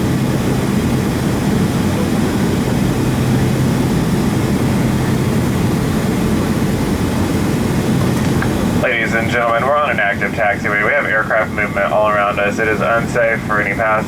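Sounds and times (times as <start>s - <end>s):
aircraft engine hum: 0.0s - 14.0s.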